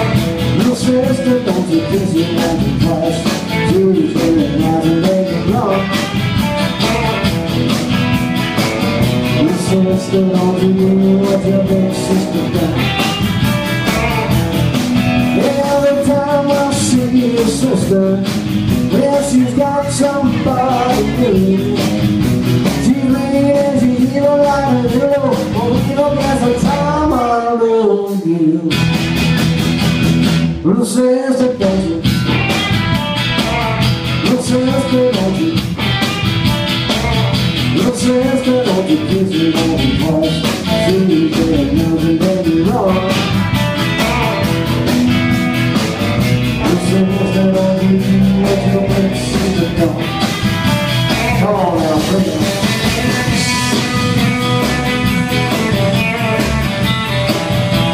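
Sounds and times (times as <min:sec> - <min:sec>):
man singing: 0:00.0 - 0:07.5, 0:09.2 - 0:14.4, 0:15.2 - 0:28.9, 0:30.5 - 0:32.5, 0:33.2 - 0:36.0, 0:36.7 - 0:44.6, 0:46.4 - 0:50.3, 0:50.9 - 0:57.0, 0:57.6 - 0:57.9
rock and roll band playing: 0:00.0 - 0:57.9.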